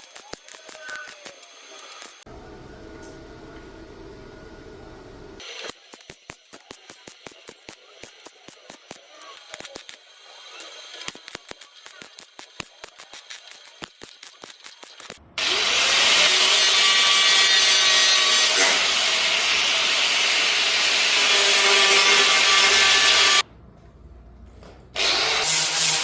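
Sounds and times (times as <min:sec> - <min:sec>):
power tool on metal: 0:00.0 - 0:02.2, 0:05.4 - 0:23.4, 0:25.0 - 0:26.0.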